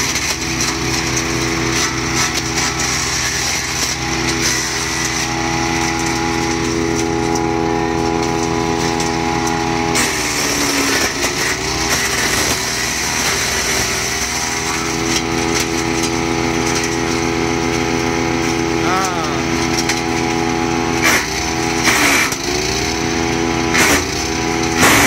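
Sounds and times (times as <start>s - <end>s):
wood going through chipper: 0.0s - 25.0s
woodchipper engine running: 0.0s - 25.0s.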